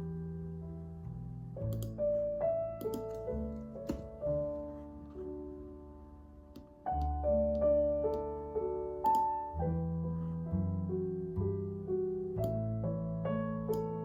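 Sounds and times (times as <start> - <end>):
calm piano music: 0.0 - 14.0.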